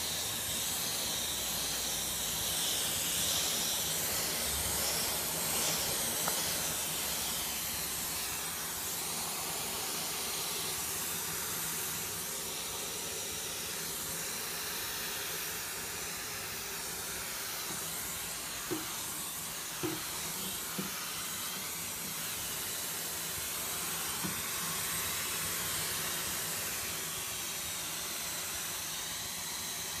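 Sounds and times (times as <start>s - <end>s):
vacuum cleaner suction hiss: 0.0s - 30.0s.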